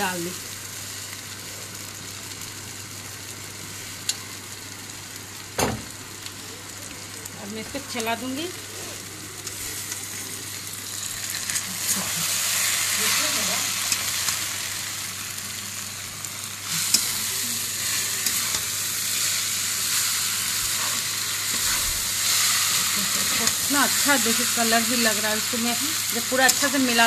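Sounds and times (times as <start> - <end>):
noodles sizzling in a wok: 0.0 - 27.0.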